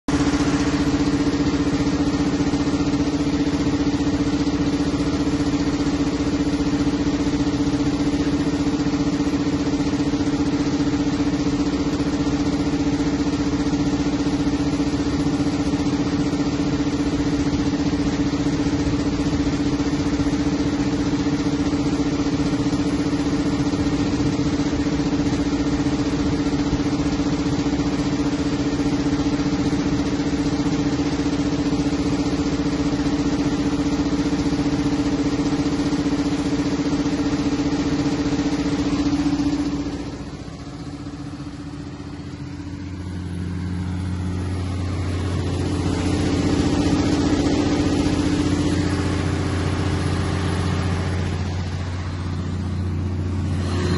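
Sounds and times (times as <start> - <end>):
diesel generator engine humming: 0.0 - 53.9.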